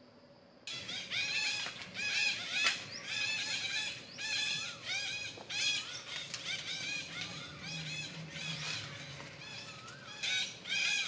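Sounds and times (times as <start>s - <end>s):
parakeets squawking: 0.7s - 11.0s.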